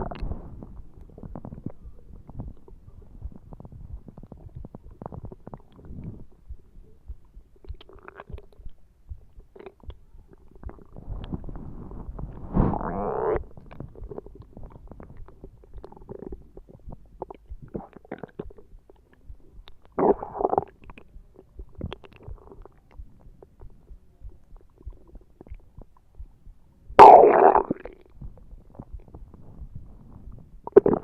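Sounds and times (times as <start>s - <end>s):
stomach growling: 0.0s - 31.0s.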